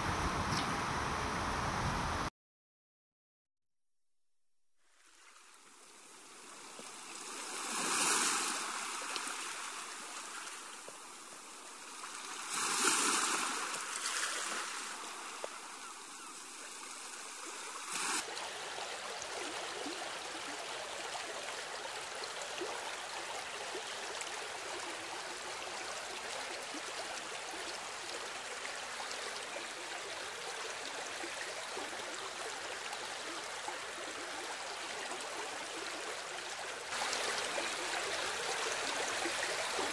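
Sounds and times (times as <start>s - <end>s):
rushing water: 4.9s - 39.9s
steady running water: 4.9s - 39.9s.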